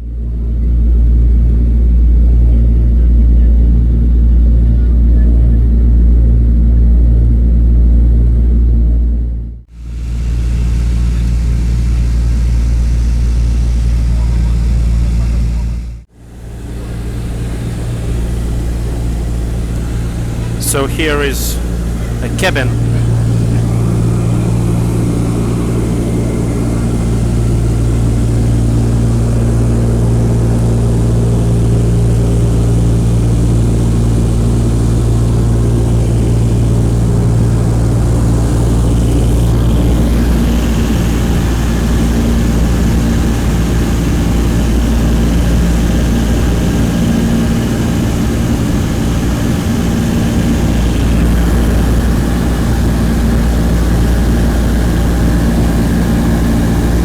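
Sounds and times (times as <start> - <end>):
airplane engines droning in cabin: 0.0 - 57.0
higher engine hum: 9.8 - 57.0.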